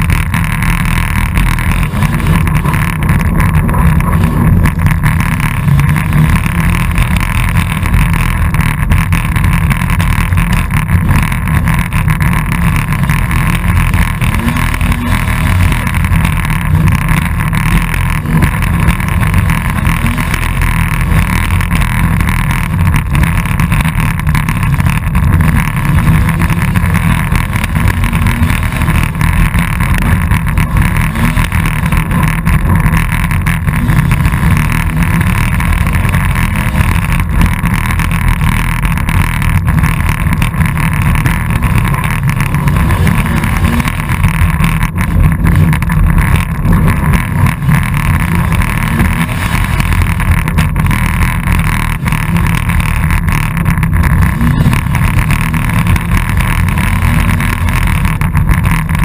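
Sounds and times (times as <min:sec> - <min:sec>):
race car engine running loud: 0:00.0 - 0:59.0
rumble and buffeting of rough ride: 0:00.0 - 0:59.0.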